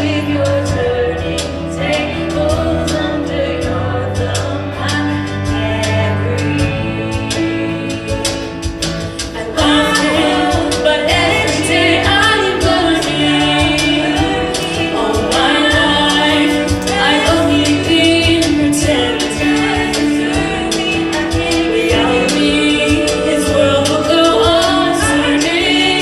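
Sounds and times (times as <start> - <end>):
female choir singing: 0.0 - 26.0
instrumental accompaniment with beat: 0.0 - 26.0.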